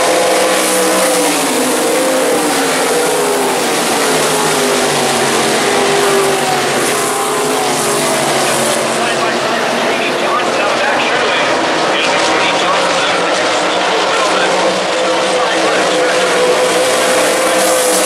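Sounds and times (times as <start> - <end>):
race car engines at high revs: 0.0 - 18.0.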